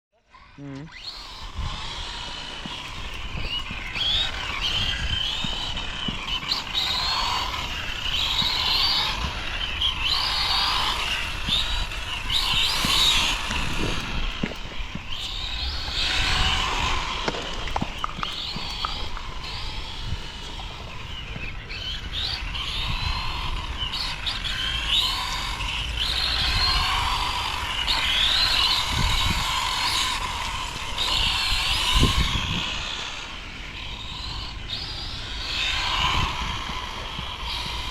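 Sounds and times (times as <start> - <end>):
model car motors whining: 0.3 - 37.9.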